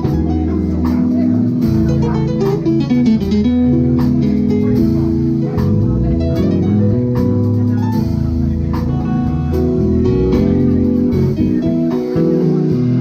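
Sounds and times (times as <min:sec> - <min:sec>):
bass guitar: 0:00.0 - 0:13.0
drums with cymbal hits: 0:00.0 - 0:13.0
held keyboard chords: 0:00.0 - 0:13.0.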